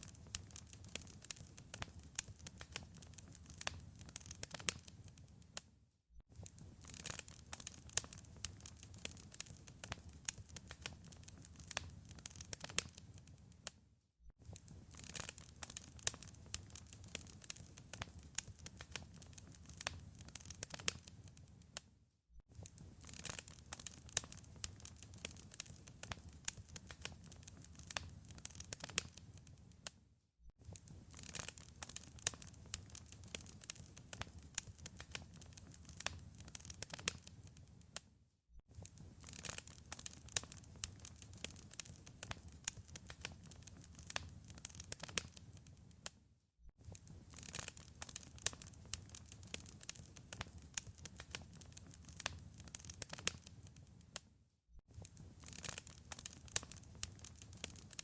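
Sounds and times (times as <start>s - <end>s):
wood fire crackling: 0.0s - 5.6s, 6.3s - 13.7s, 14.4s - 21.8s, 22.5s - 29.9s, 30.6s - 38.0s, 38.7s - 46.1s, 46.8s - 54.2s, 54.9s - 58.0s.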